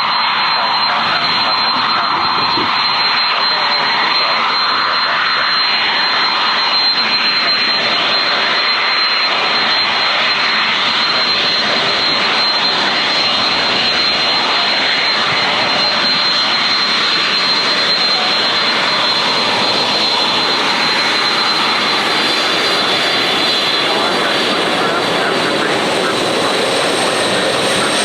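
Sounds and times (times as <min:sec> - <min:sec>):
high engine whine: 0:00.0 - 0:28.0
jet engines running: 0:00.0 - 0:28.0.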